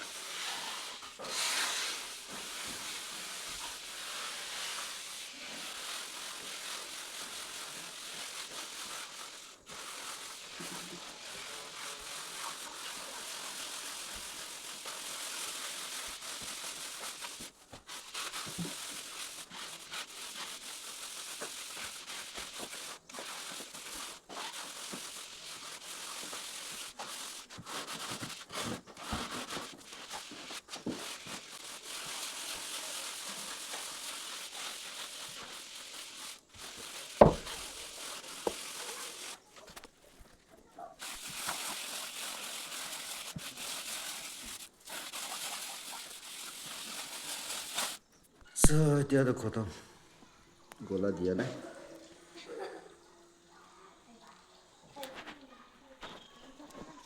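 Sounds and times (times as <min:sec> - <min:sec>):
trowel scraping cement plaster: 0:00.0 - 0:48.6.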